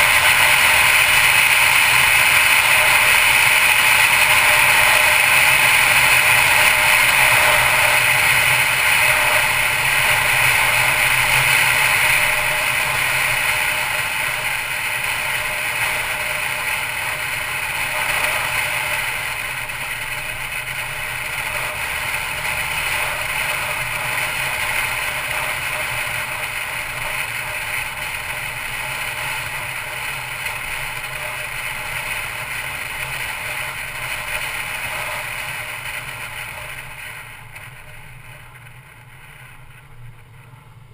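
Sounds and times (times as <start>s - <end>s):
car road and wind noise: 0.0s - 40.9s.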